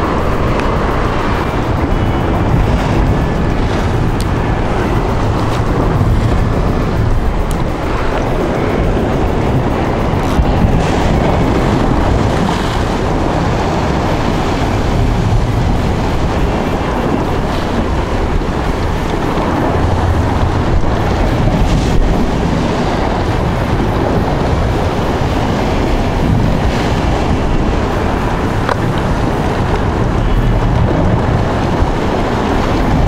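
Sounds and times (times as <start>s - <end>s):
waves breaking against rocks: 0.0s - 33.0s
wind buffeting microphone: 0.0s - 33.0s.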